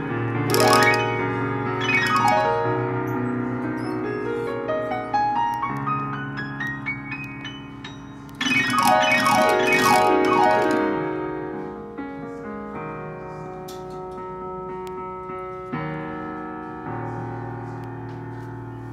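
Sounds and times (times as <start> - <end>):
solo piano: 0.0 - 18.9.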